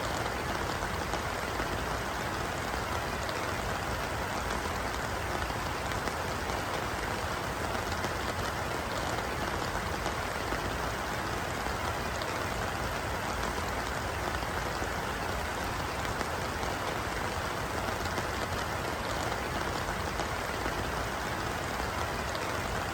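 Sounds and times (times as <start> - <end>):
rain falling on a pond: 0.0 - 22.9.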